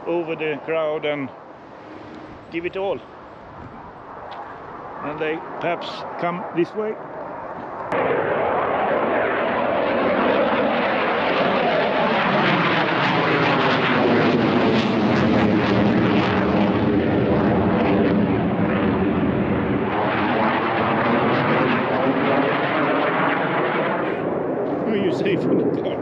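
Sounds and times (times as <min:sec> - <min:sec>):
fighter jet flying past: 0:00.3 - 0:26.0.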